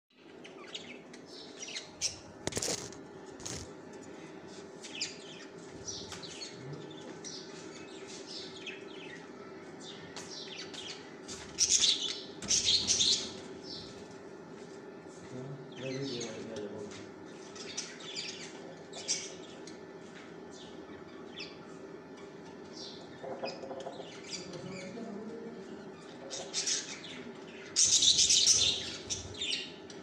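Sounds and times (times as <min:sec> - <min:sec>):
small birds chirping: 0:00.1 - 0:30.0
steady low hum: 0:00.2 - 0:30.0.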